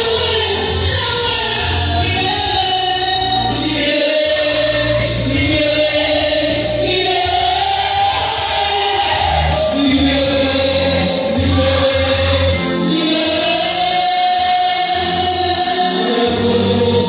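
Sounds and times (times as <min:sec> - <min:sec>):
congregation singing gospel song: 0:00.0 - 0:17.0.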